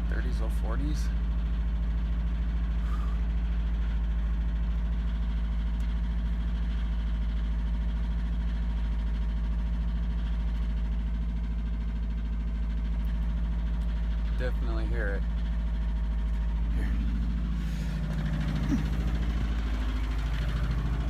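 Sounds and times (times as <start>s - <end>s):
car engine idling with piston slap: 0.1s - 21.0s.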